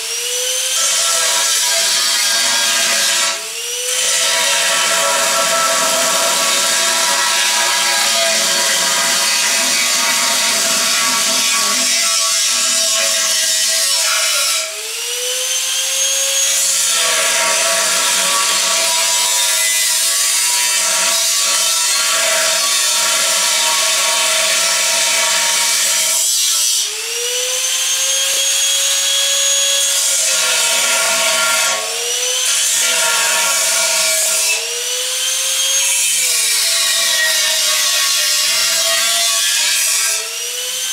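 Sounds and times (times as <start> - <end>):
angle grinder grinding steel: 0.0 - 40.9.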